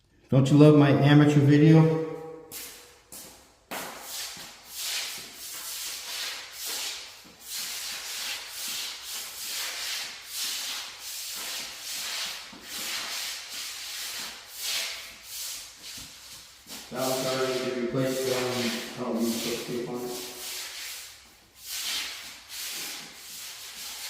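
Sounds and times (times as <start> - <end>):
soft swishing and rubbing: 4.1 - 24.0.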